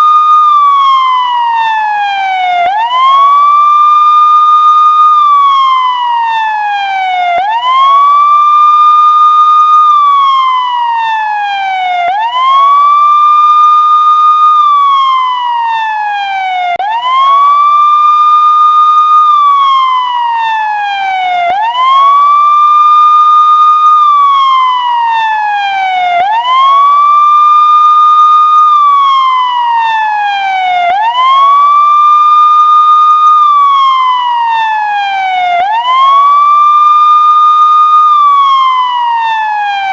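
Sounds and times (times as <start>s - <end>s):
electronic police siren wail: 0.0s - 39.9s.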